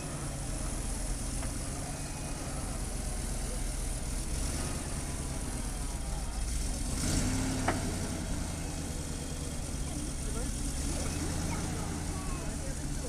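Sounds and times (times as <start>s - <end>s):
truck engine running at low revs: 0.0s - 13.0s.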